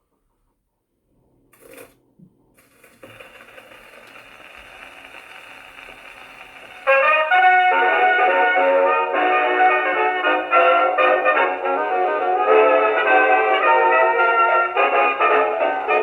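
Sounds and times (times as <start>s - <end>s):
record surface hiss: 0.0s - 16.0s
brass band music on gramophone: 3.2s - 16.0s.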